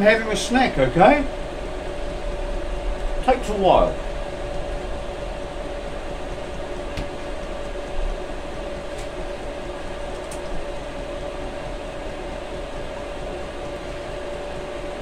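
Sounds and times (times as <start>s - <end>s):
heater blower hum with whine: 0.0s - 15.0s.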